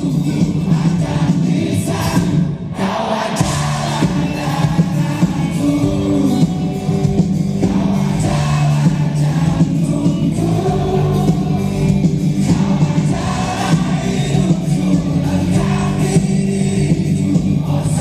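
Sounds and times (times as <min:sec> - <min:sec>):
live rock band playing: 0:00.0 - 0:02.7, 0:03.4 - 0:18.0
man singing: 0:00.0 - 0:07.0, 0:07.6 - 0:18.0.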